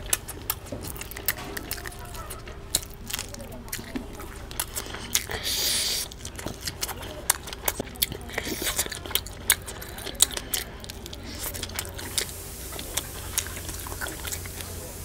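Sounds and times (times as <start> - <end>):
wet mouth clicks: 0.0 - 14.8
crunching fried fish: 0.0 - 15.0.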